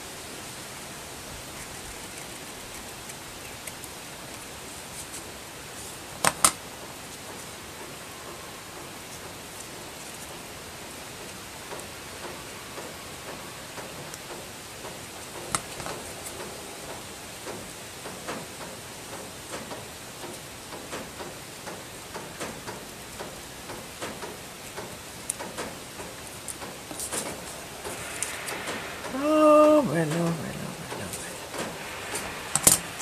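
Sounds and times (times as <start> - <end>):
wind hiss on microphone: 0.0 - 33.0.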